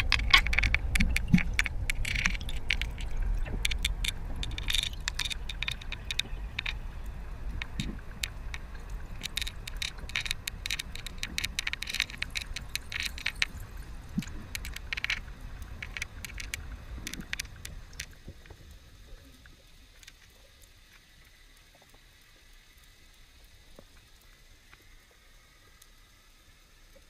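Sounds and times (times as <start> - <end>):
sharp underwater clicks and crackles: 0.0 - 27.0
underwater water rush: 0.0 - 27.0.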